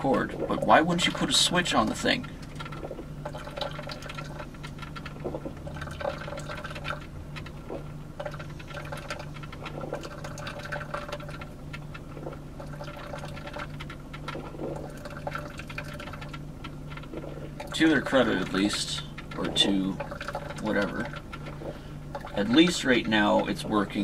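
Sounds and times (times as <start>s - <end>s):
coffee maker gurgling: 0.0s - 24.0s
low hum: 0.0s - 24.0s.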